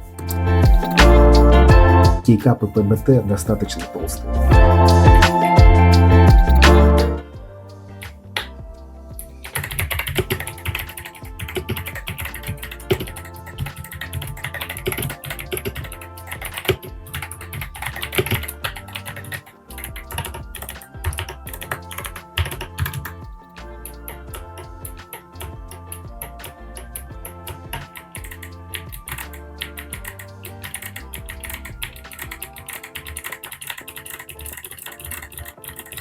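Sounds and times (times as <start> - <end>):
background music: 0.0 - 36.0.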